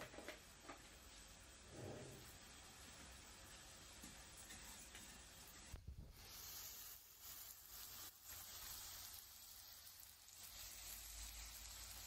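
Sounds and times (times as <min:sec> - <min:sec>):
faint sizzling in a frying pan: 0:00.0 - 0:12.0.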